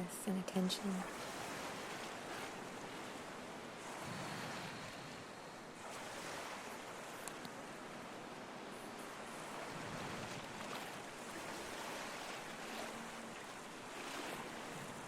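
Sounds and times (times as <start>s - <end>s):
ocean waves on shore: 0.0s - 15.0s.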